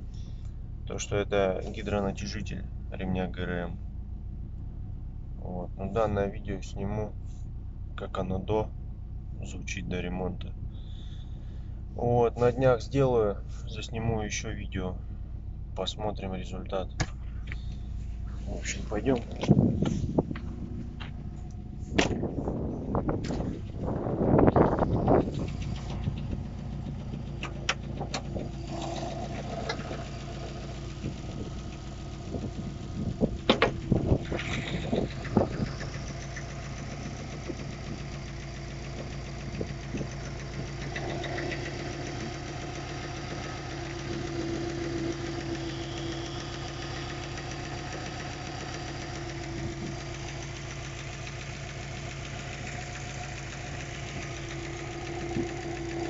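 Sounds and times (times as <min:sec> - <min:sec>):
car engine idling rough: 0:00.0 - 0:56.0
engine knocking and clattering: 0:00.0 - 0:56.0.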